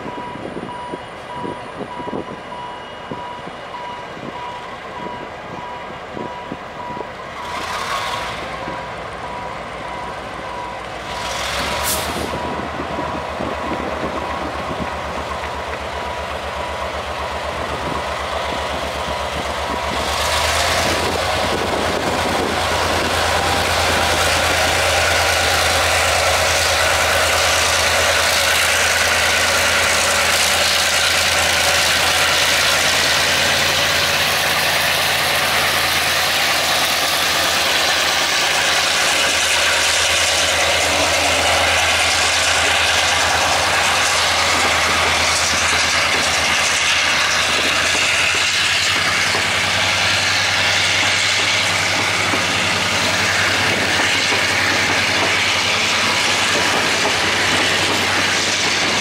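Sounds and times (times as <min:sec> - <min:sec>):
diesel locomotive engine: 0:00.0 - 0:59.0.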